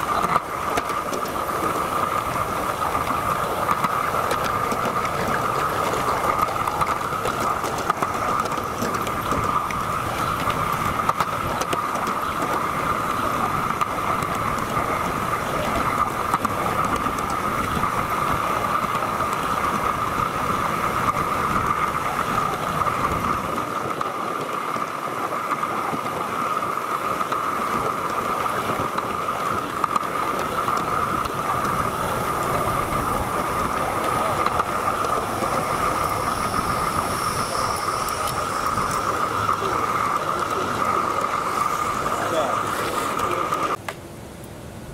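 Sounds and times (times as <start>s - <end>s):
model train wheels rolling on rails: 0.0s - 44.0s.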